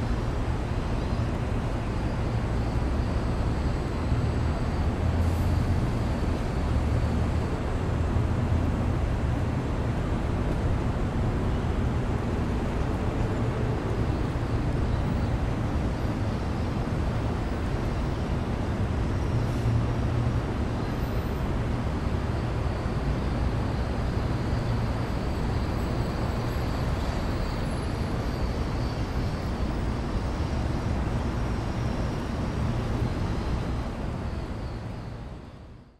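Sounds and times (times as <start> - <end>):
low urban rumble: 0.0 - 35.9.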